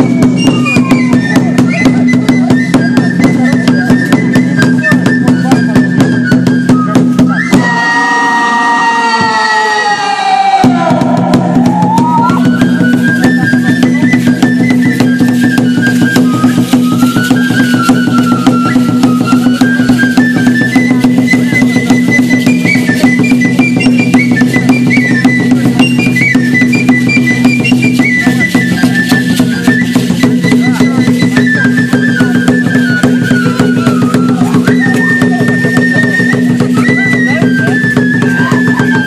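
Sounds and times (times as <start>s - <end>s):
fast steady drumming: 0.0s - 39.0s.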